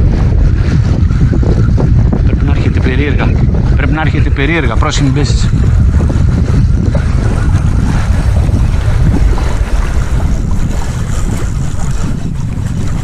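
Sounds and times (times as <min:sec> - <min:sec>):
water washing: 0:00.0 - 0:13.0
wind buffeting microphone: 0:00.0 - 0:13.0.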